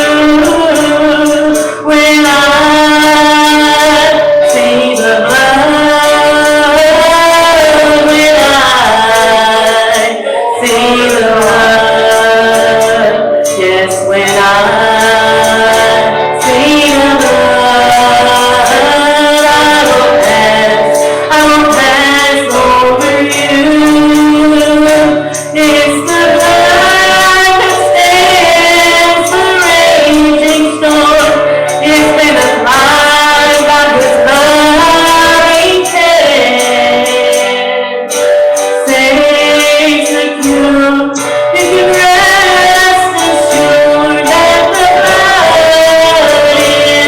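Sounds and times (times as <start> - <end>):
instrumental accompaniment: 0.0 - 47.0
women singing worship songs: 0.0 - 47.0.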